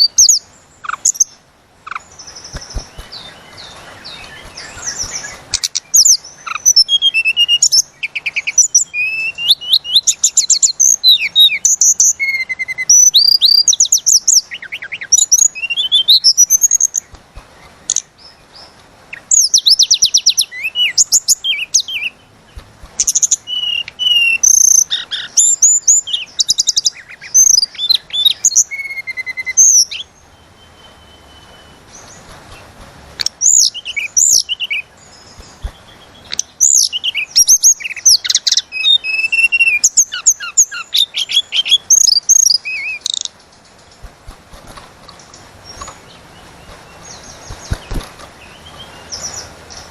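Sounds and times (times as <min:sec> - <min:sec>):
bird singing trills and whistles: 0:00.0 - 0:17.2, 0:17.9 - 0:22.2, 0:23.0 - 0:32.3, 0:33.2 - 0:44.1, 0:45.1 - 0:49.9.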